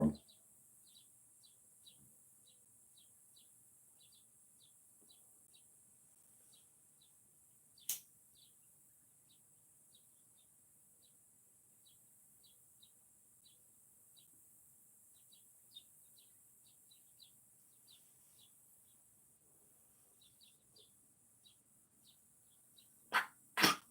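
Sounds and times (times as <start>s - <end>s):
small bird chirping: 0.0s - 23.9s.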